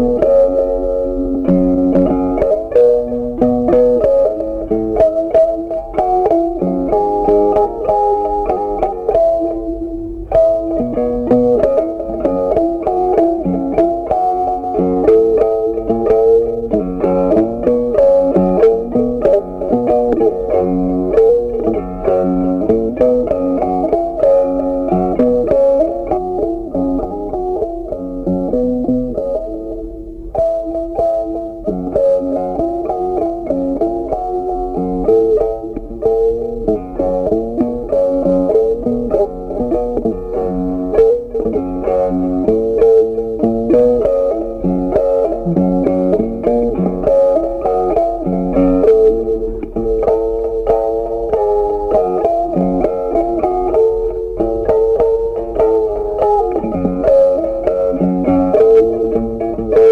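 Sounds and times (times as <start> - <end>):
plucked guitar melody with beat: 0.0 - 59.9.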